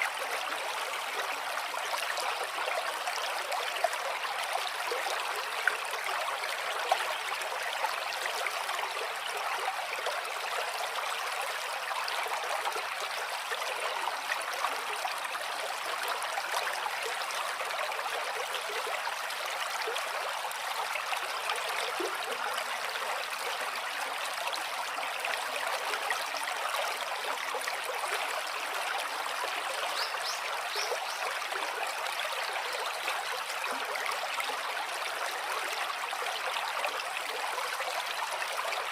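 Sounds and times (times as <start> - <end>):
stream burbling: 0.0 - 38.9.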